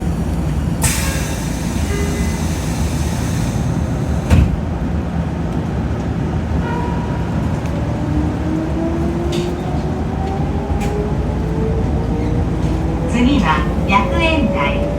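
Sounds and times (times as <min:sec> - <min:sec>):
electric train rumbling: 0:00.0 - 0:14.9.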